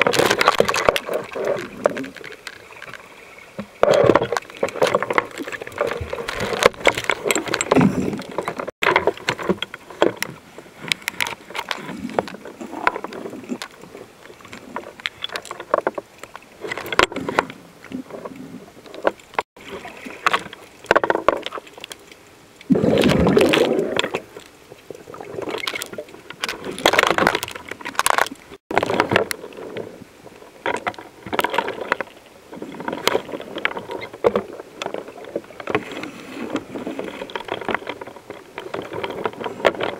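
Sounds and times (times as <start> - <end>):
underwater gurgling and swishing: 0.0 - 39.9.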